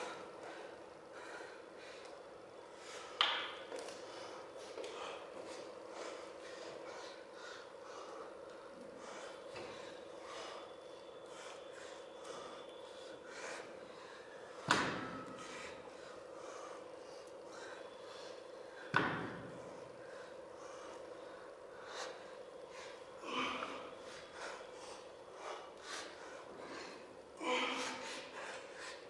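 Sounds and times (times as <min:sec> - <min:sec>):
person breathing hard through nose: 0:04.0 - 0:14.5, 0:15.2 - 0:29.0.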